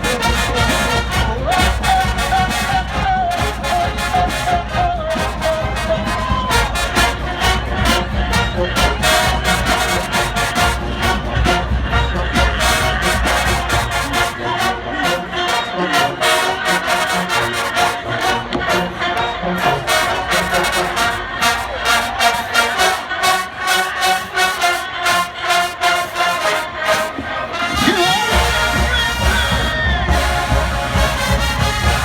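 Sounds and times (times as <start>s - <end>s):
fast marching drum beat: 0.0s - 26.9s, 27.6s - 32.0s
brass section playing: 0.0s - 32.0s.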